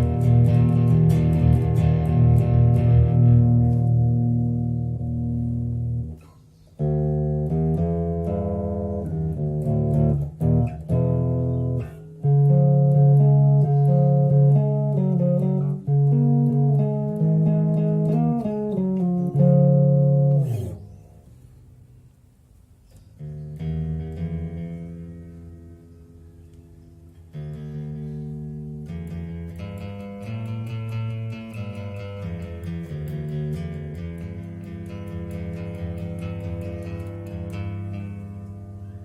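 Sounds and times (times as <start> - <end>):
electric bass guitar plucked notes: 0.0 - 21.4, 23.2 - 39.0.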